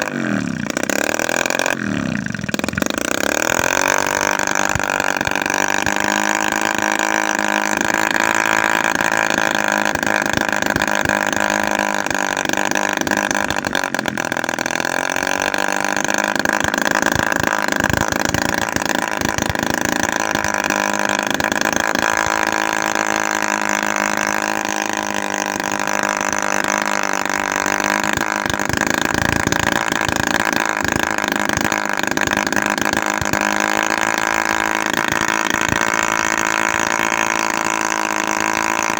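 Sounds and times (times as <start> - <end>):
small two-stroke engine running: 0.0 - 38.9.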